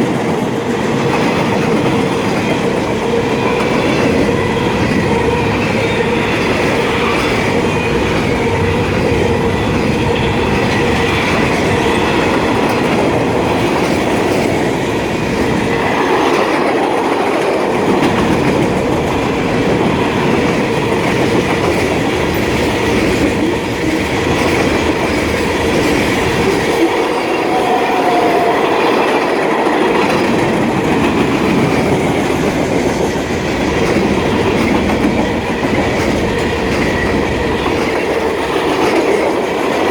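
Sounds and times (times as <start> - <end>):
train cars clacking over rails: 0.0 - 39.9
squeaking train wheel: 1.0 - 39.9.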